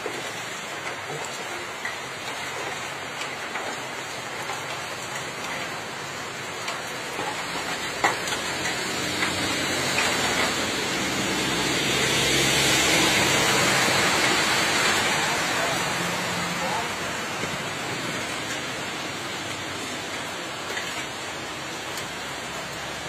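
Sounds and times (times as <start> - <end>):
rain on wet road: 0.0 - 23.0.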